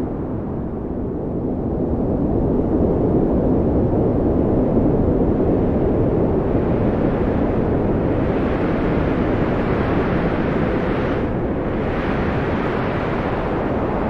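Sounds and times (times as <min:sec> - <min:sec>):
wind blowing: 0:00.0 - 0:14.0.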